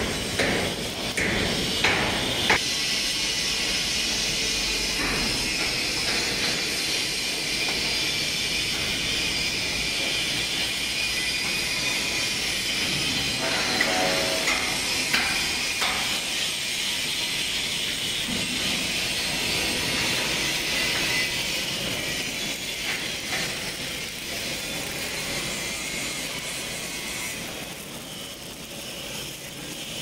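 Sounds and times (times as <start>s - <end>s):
angle grinder grinding steel: 0.0s - 30.0s.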